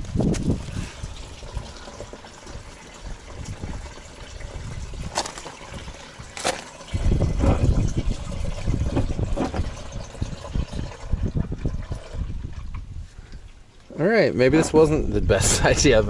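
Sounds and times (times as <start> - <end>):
wind rumbling on microphone: 0.0 - 13.7, 14.4 - 16.0
oil pouring in a stream: 0.0 - 14.0.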